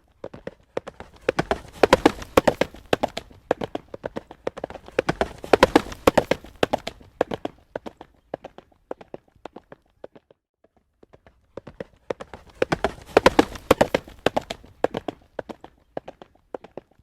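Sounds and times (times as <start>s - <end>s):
horse hooves trotting on road: 0.0s - 17.0s.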